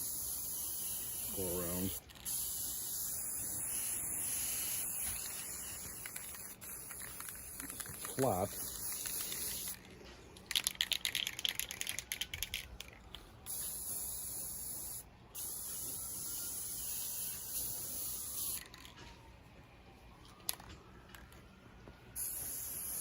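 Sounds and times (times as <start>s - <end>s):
spray paint can hissing: 0.0s - 9.9s, 10.5s - 18.8s, 22.2s - 23.0s.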